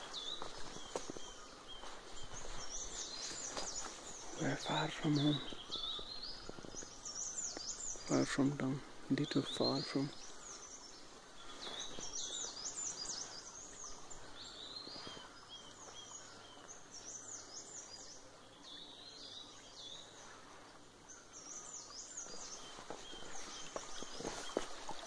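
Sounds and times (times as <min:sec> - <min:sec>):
birds singing: 0:00.0 - 0:25.0.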